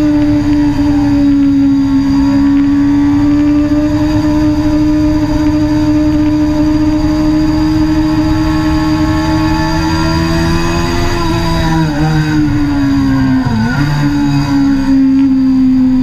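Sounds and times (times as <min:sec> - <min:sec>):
motorcycle engine running hard: 0:00.0 - 0:16.0.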